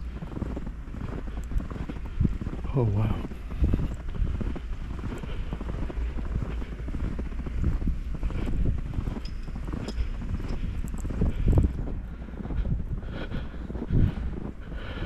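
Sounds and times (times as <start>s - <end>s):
footsteps crunching through snow: 0.0s - 15.0s
wind rumble on microphone: 0.0s - 15.0s.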